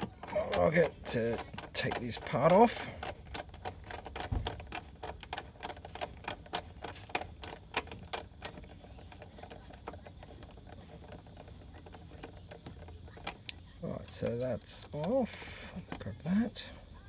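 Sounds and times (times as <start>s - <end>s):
socket ratchet clicking: 0.0s - 16.6s.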